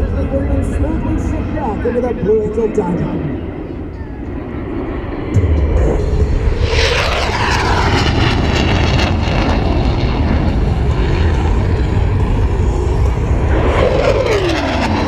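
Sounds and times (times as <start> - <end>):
jet aircraft flying past: 0.0 - 15.0.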